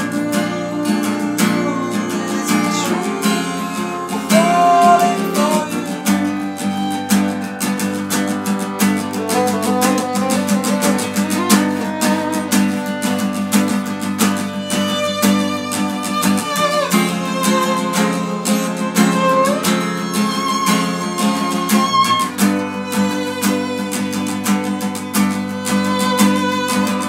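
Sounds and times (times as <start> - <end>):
acoustic guitar strumming: 0.0 - 27.0
violin bowed melody: 0.0 - 27.0.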